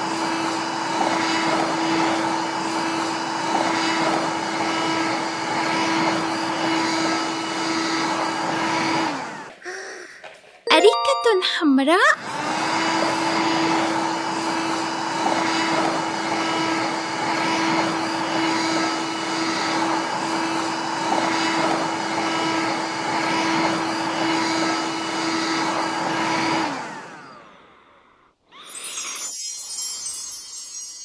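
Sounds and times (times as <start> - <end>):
toy vacuum cleaner motor whirring: 0.0 - 10.4, 12.3 - 27.7, 28.5 - 31.0.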